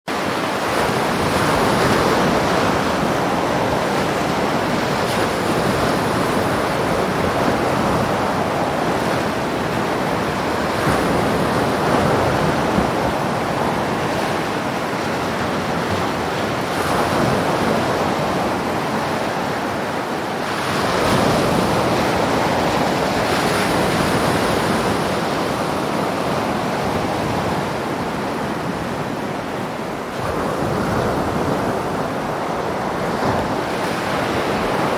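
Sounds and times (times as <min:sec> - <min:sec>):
waves washing onto beach: 0:00.1 - 0:34.9
wind buffeting microphone: 0:00.2 - 0:34.9.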